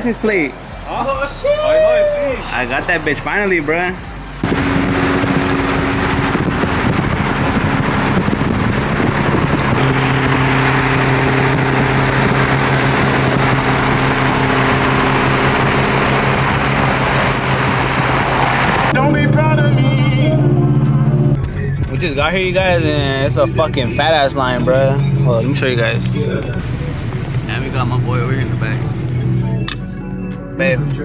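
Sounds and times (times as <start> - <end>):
car engine drone: 0.0 - 31.0
road and wind noise: 0.0 - 31.0.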